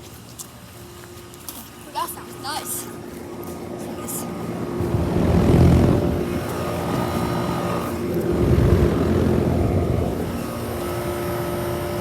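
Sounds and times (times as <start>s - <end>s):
compressor hum: 0.0s - 12.0s
fan rushing: 2.0s - 12.0s.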